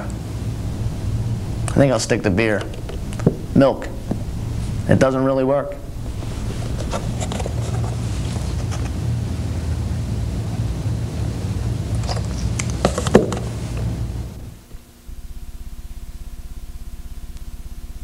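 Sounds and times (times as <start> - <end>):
faint pulsing buzz: 0.0 - 18.0
low electrical hum: 0.0 - 18.0.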